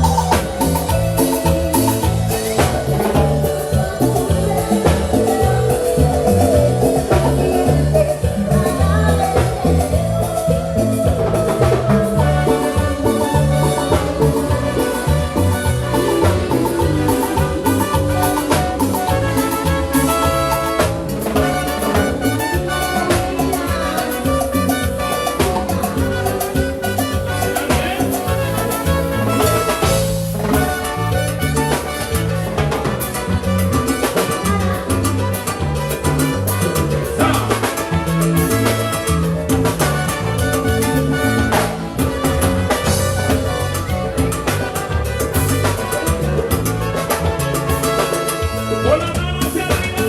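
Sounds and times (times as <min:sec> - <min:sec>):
bass line: 0:00.0 - 0:50.0
busy percussion: 0:00.0 - 0:50.0
live band playing latin dance music: 0:00.0 - 0:50.0.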